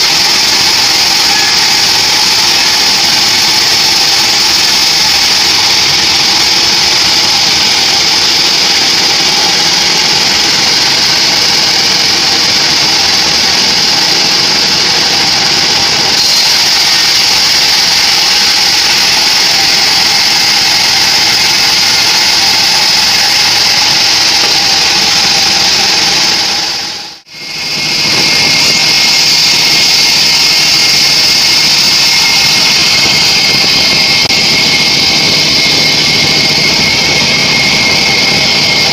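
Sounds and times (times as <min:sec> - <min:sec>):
band sawmill sawing log: 0:00.0 - 0:38.9.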